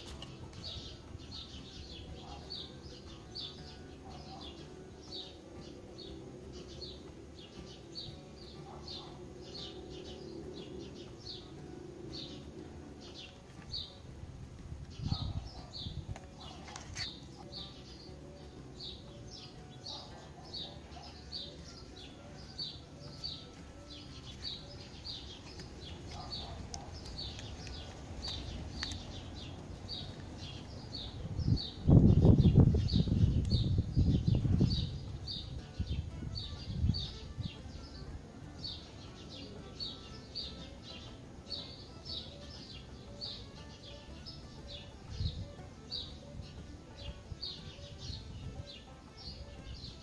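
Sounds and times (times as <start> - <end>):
bird chirping: 0.0 - 14.2, 14.8 - 50.0.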